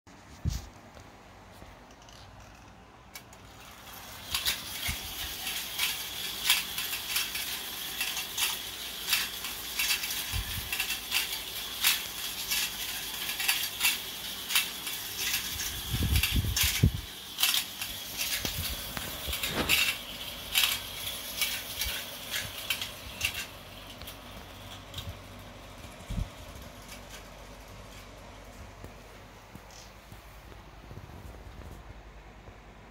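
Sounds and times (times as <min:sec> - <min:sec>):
clockwork toy train rattling: 0:01.8 - 0:28.8.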